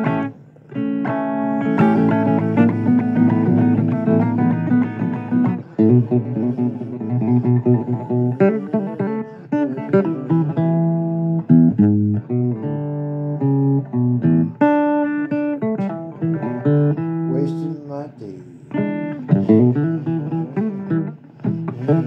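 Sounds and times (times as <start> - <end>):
blues guitar playing: 0.0 - 22.0.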